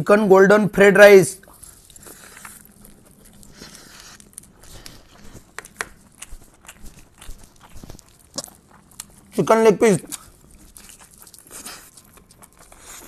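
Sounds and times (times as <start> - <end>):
person chewing with wet smacks: 1.4 - 13.0.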